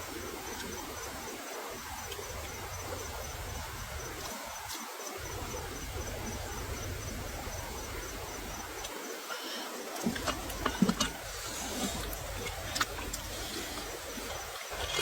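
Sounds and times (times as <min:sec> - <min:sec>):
low rumble and hiss: 0:00.0 - 0:04.3, 0:05.2 - 0:08.9, 0:10.1 - 0:15.0
insect chirping: 0:00.0 - 0:15.0.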